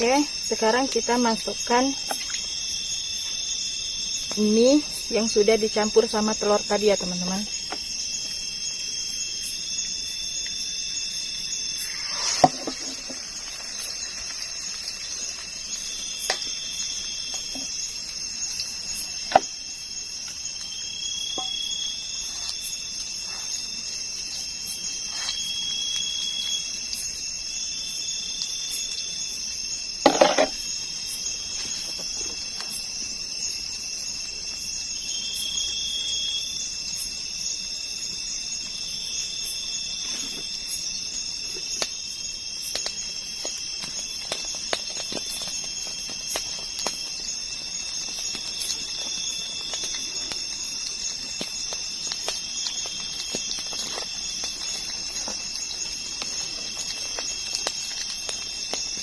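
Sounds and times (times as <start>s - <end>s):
food frying in hot oil: 0.0s - 59.0s
insects chirring: 0.0s - 59.0s
pulsing insect trill: 0.0s - 59.0s.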